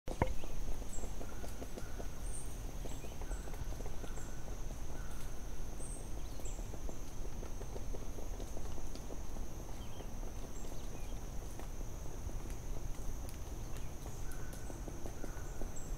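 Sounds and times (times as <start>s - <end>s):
small ticks and crackles: 0.1s - 15.9s.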